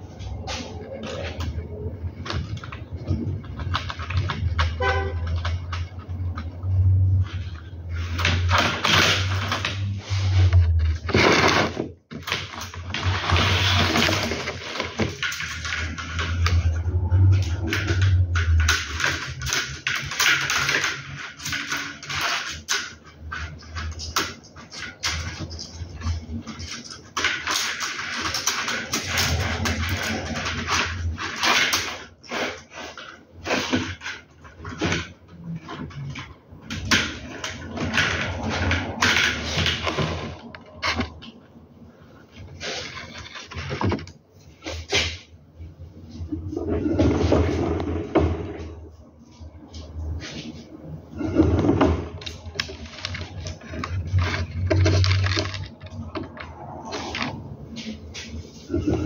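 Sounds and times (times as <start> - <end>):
plastic strip rattling and scraping: 0.0 - 59.0.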